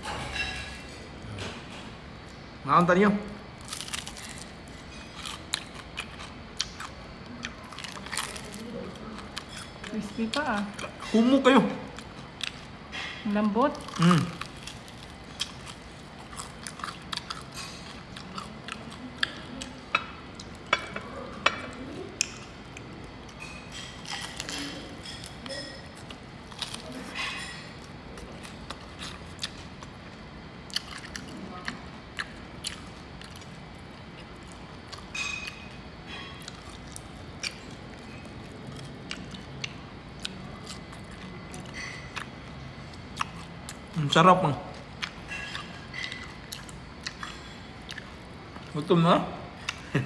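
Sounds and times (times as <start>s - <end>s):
chewing crispy skin: 3.1s - 50.0s.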